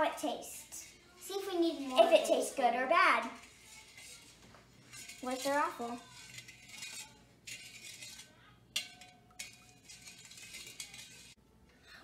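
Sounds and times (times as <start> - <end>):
spoon scraping metal bowl: 0.6 - 11.4.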